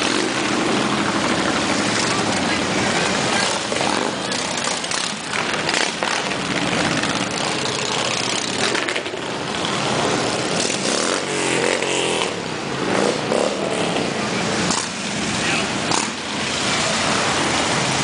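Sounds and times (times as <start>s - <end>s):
motorcycles riding past: 0.0s - 18.0s.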